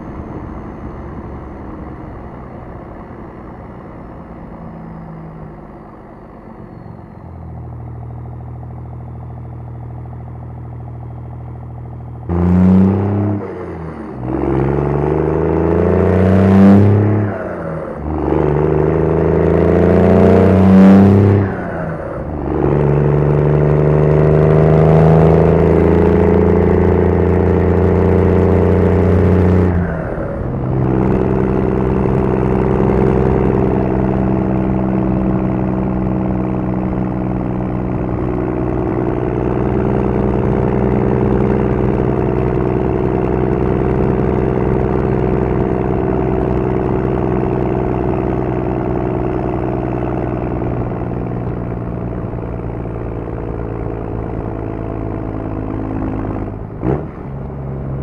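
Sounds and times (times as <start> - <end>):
diesel truck engine pulling hard: 0.0 - 58.0.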